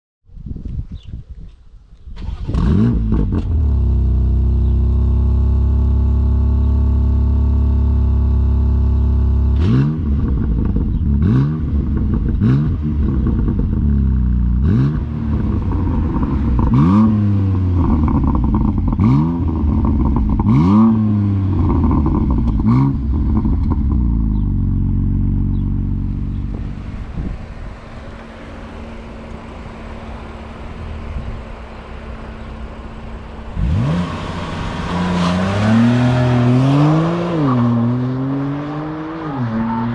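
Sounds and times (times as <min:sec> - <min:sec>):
car engine starting and idling: 0:02.0 - 0:38.6
engine revving: 0:02.2 - 0:27.2, 0:28.7 - 0:39.9.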